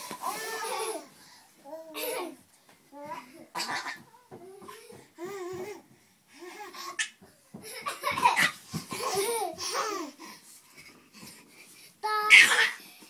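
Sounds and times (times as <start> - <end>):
babies laughing and giggling: 0.1 - 1.2, 1.8 - 2.4, 3.1 - 11.5, 12.1 - 12.9.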